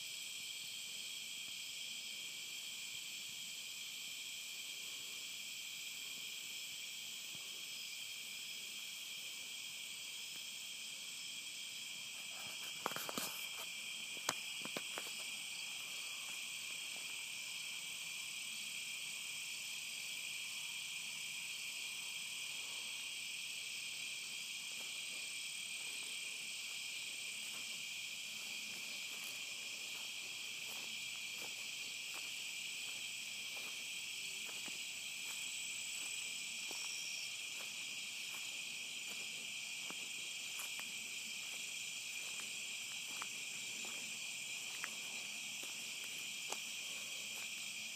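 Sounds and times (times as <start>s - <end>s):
crickets chirping: 0.0s - 47.9s.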